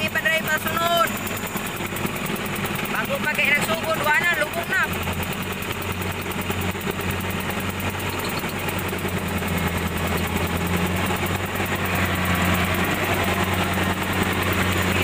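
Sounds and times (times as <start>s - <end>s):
diesel engines humming: 0.0s - 15.0s.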